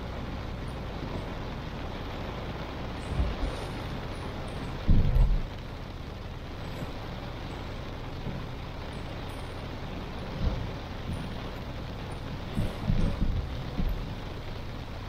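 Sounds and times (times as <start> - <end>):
heavy rain on a car: 0.0 - 15.0
road noise: 0.0 - 15.0
low thumps: 2.0 - 15.0.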